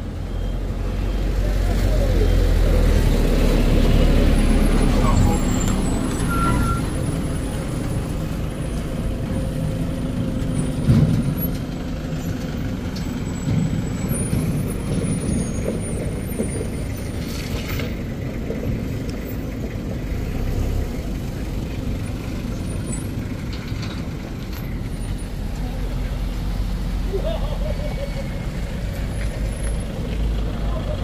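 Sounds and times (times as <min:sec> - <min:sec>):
vehicle engines driving past: 0:00.0 - 0:31.0.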